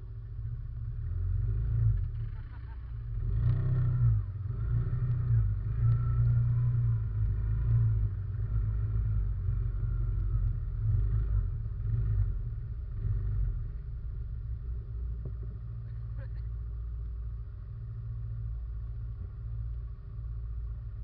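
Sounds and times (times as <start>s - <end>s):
quad bike engine rumbling: 0.0s - 21.0s.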